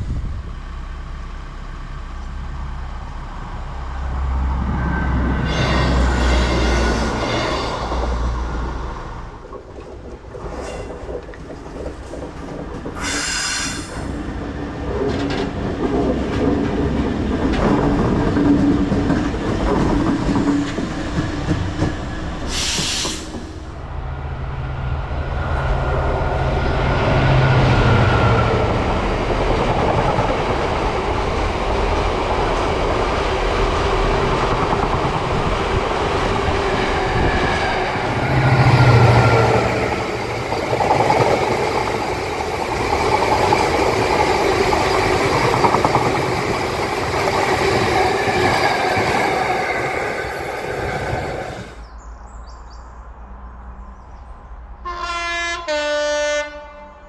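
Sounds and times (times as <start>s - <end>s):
freight wagons rumbling over rails: 0.0s - 51.9s
diesel locomotive engine hum: 0.0s - 57.0s.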